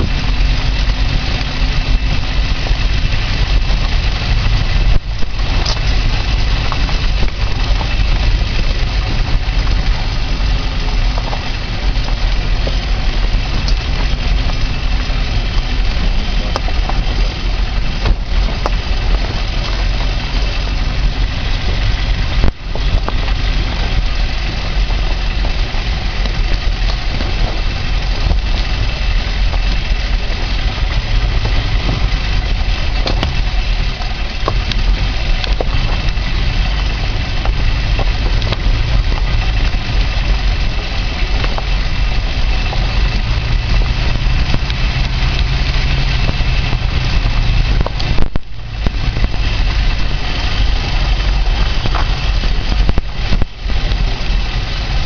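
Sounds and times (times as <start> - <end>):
body and suspension rattles: 0.0 - 55.0
car engine running: 0.0 - 55.0.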